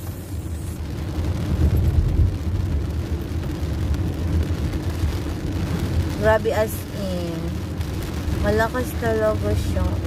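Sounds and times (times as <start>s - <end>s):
car engine and road rumble: 0.0s - 10.0s
rain hiss on wet road: 0.0s - 10.0s.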